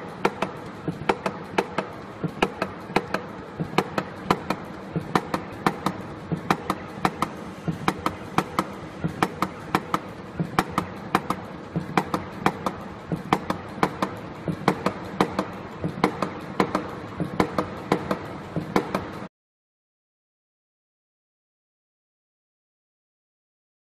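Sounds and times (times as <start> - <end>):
machine motor hum: 0.0 - 19.3.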